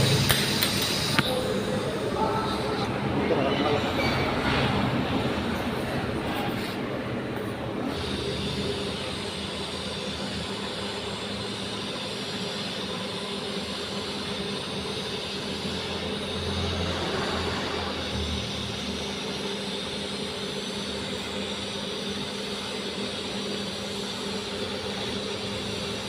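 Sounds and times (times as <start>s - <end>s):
welding arc hissing: 0.0s - 2.9s, 7.8s - 26.0s.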